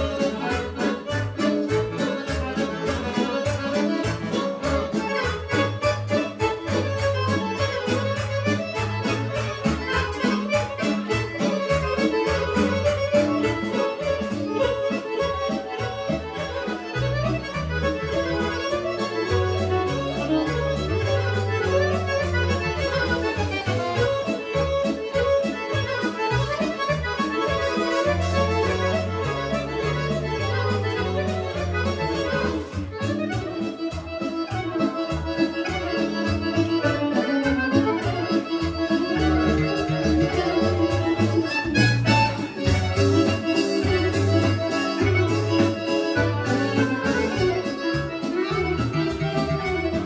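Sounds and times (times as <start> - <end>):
fast folk dance tune with violin: 0.0 - 50.0.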